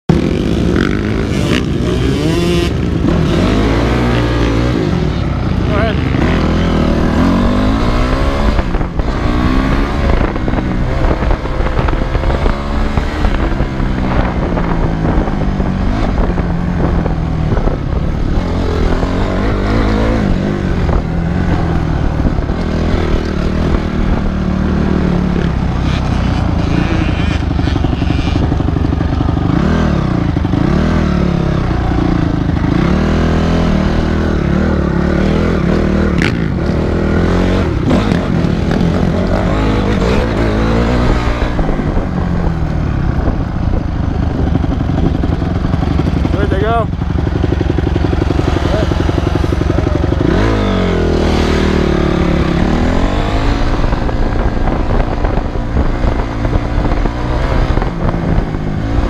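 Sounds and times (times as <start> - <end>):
dirt bike engine revving: 0.1 - 59.0.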